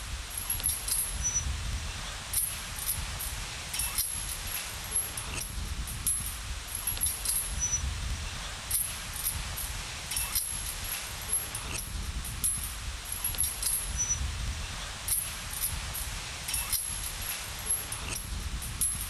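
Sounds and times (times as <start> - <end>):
wind on microphone: 0.0 - 19.0
metal swing set squeaking: 0.4 - 3.0, 3.7 - 7.9, 8.7 - 12.4, 13.1 - 14.2, 15.1 - 19.0.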